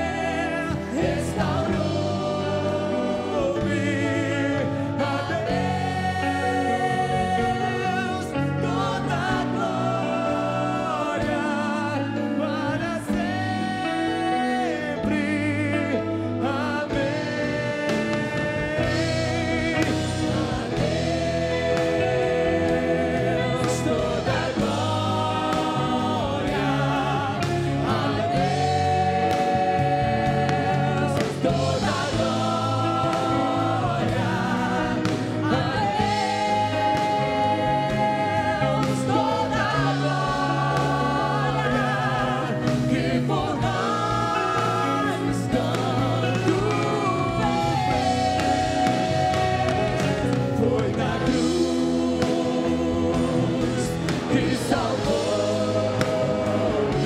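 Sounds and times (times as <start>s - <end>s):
drums: 0.0s - 57.0s
electric guitar: 0.0s - 57.0s
male and female voices singing: 0.0s - 57.0s.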